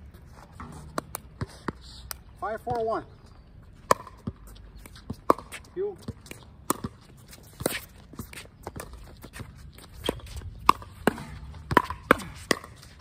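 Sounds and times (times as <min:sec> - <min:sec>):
footsteps and shoe scuffs: 0:00.0 - 0:10.6.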